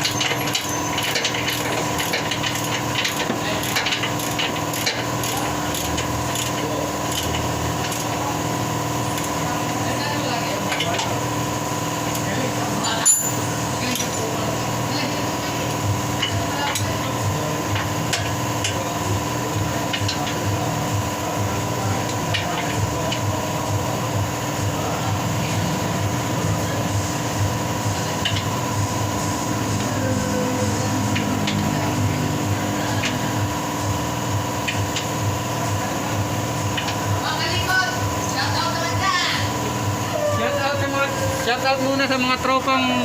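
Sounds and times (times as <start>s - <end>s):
machine hum with low pulse: 0.0s - 43.0s.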